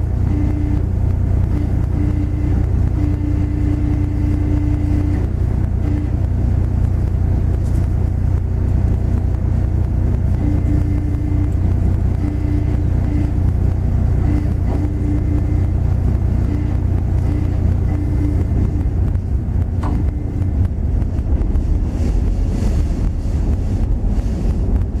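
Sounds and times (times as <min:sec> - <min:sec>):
mid-pitched hum cutting in and out: 0:00.0 - 0:25.0
ship engine deep drone: 0:00.0 - 0:25.0.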